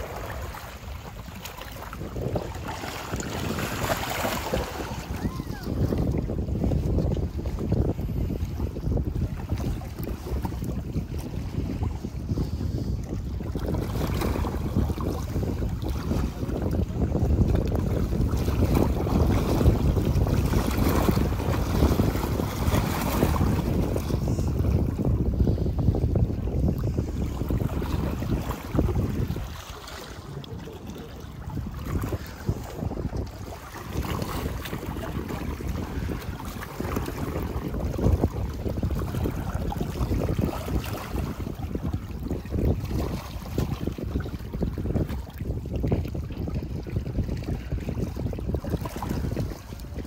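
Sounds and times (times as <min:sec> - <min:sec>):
waves lapping against rocks: 0:00.0 - 0:50.0
wind buffeting microphone: 0:00.0 - 0:50.0.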